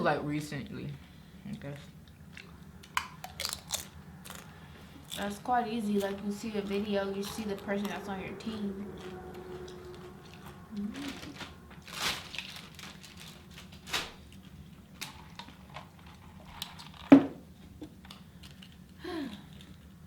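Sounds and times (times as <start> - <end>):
eating and food handling noises: 1.4 - 20.0.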